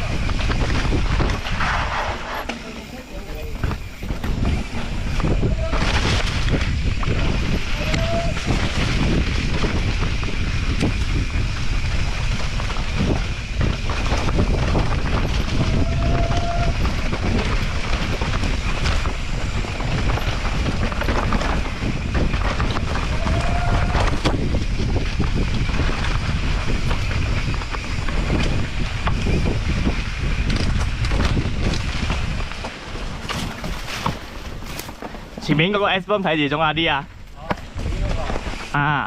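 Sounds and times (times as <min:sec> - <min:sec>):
bike chain and frame rattling: 0:00.0 - 0:39.0
bike tyres on dirt trail: 0:00.0 - 0:39.0
wind buffeting microphone: 0:00.0 - 0:39.0.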